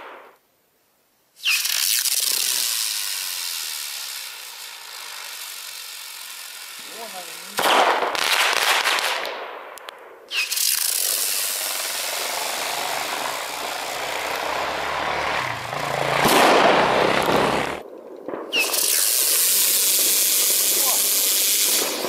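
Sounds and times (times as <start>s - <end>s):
fireworks hissing: 1.4s - 9.3s, 10.3s - 17.8s, 18.5s - 22.0s.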